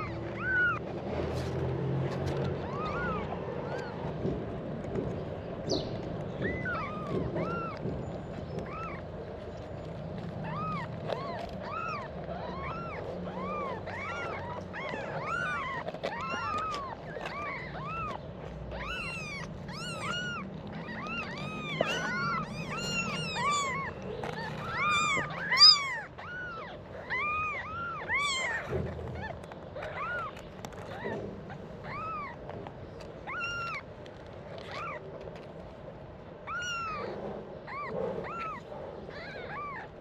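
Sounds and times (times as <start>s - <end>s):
kittens mewing: 0.0s - 40.0s.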